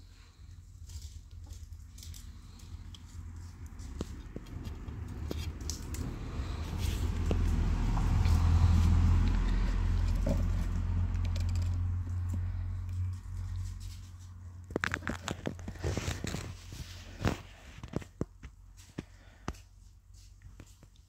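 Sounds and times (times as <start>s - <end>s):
vehicle engine rumble: 0.0s - 19.2s.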